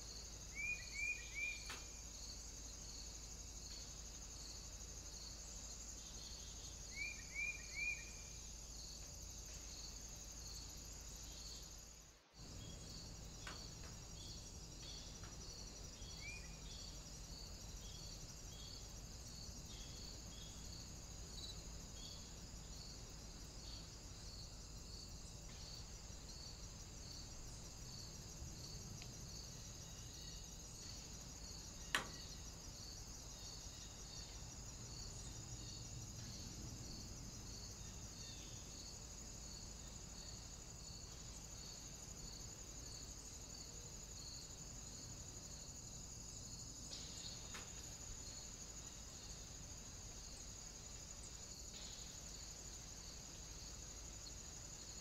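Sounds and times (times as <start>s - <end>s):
high insect buzz: 0.0s - 55.0s
insects chirping: 0.0s - 55.0s.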